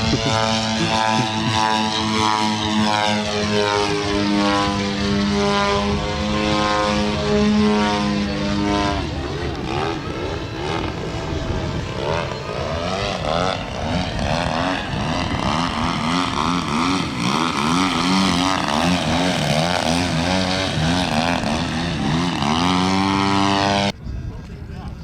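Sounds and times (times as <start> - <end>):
model airplane engine and propeller: 0.0 - 25.0.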